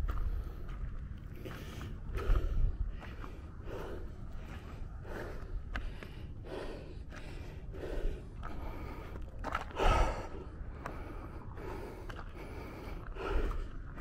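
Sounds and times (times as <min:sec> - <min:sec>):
person breathing hard: 0:00.0 - 0:14.0
wind rumble on microphone: 0:00.0 - 0:14.0.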